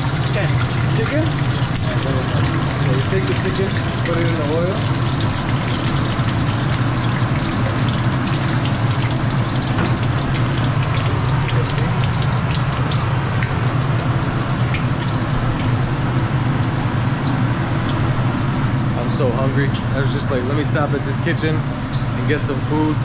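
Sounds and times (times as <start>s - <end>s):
chicken frying in hot oil: 0.0s - 23.0s.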